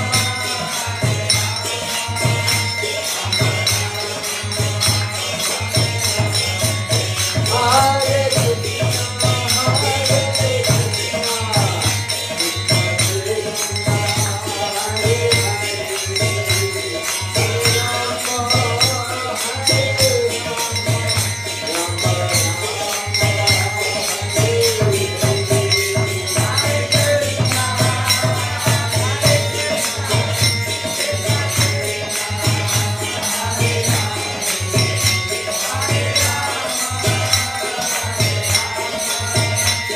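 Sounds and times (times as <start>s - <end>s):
jingling hand percussion: 0.0s - 39.9s
person chanting a slow melody: 0.0s - 39.9s.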